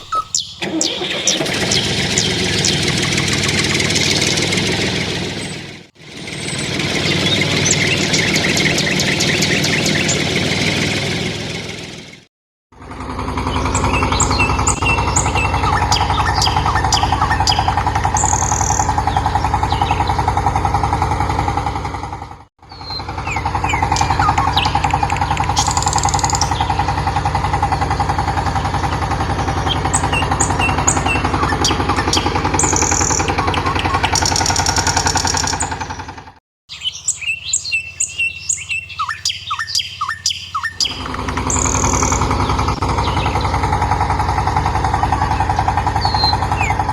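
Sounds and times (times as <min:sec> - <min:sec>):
small birds chirping: 0:00.0 - 0:11.2, 0:13.5 - 0:21.2, 0:22.6 - 0:36.0, 0:36.7 - 0:46.9
motor humming: 0:00.0 - 0:11.9, 0:12.8 - 0:36.2, 0:36.8 - 0:46.9.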